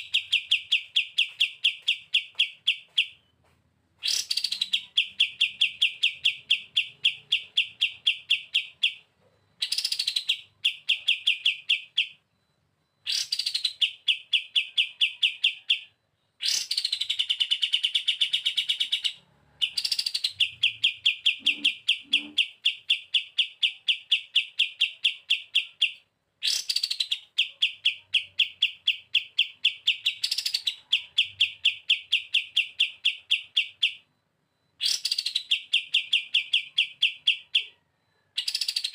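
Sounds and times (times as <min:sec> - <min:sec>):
bird singing trills: 0:00.0 - 0:03.4, 0:04.0 - 0:12.4, 0:13.0 - 0:34.1, 0:34.7 - 0:38.9.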